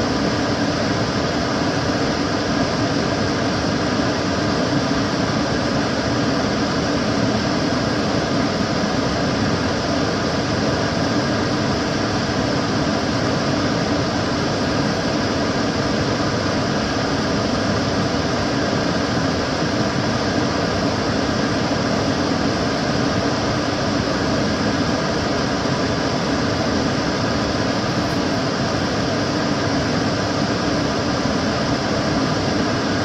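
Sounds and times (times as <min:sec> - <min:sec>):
extractor fan running: 0:00.0 - 0:33.0.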